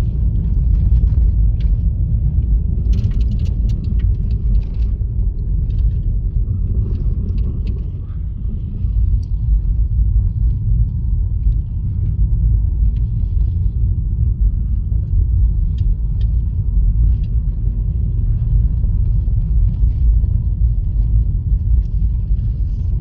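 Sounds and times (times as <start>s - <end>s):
car cabin low rumble: 0.0s - 23.0s.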